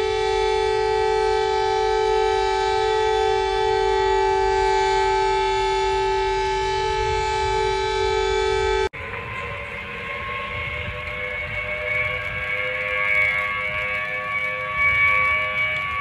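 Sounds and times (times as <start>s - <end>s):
fire alarm siren steady tone: 0.0s - 16.0s.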